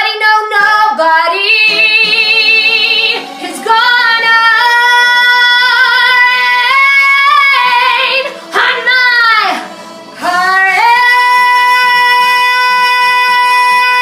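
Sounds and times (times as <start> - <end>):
woman singing with vibrato: 0.0 - 14.0.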